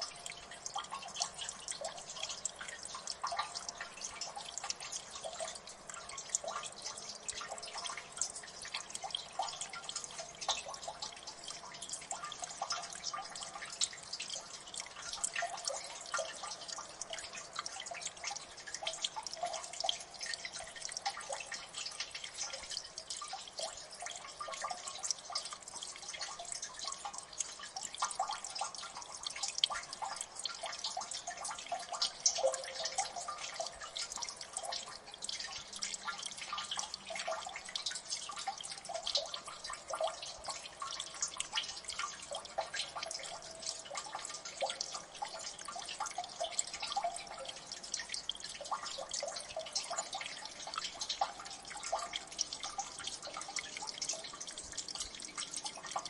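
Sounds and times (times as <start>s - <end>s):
water dripping: 0.0s - 56.0s
water trickling: 0.0s - 56.0s.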